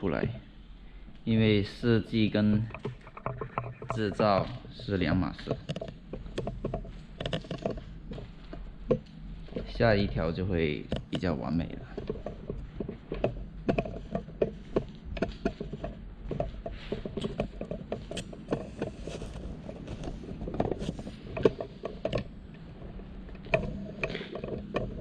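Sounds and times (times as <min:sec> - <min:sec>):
irregular knocks and clatter: 0:00.0 - 0:25.0
low steady rumble: 0:00.0 - 0:25.0.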